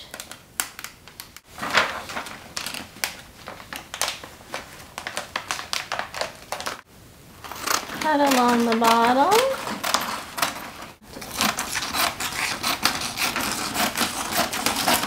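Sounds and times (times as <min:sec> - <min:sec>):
packing tape crinkling: 0:00.0 - 0:06.8, 0:07.4 - 0:15.0.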